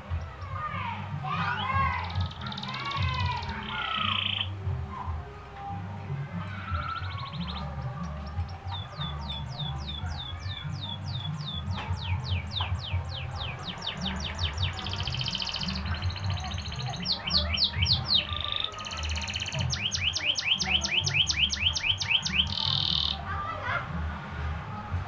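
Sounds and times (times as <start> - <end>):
canary singing: 0.1 - 4.8, 6.4 - 23.3.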